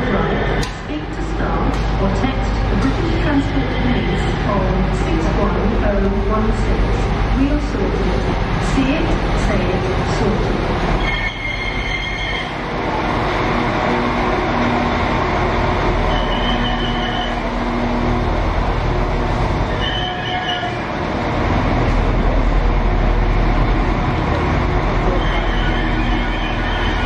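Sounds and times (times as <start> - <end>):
diesel train engine rumble: 0.0 - 27.0.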